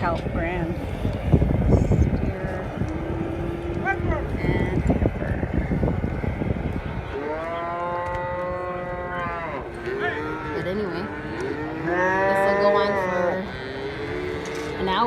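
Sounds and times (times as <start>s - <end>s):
calves bawling: 0.0s - 15.0s
cattle mooing: 2.0s - 15.0s.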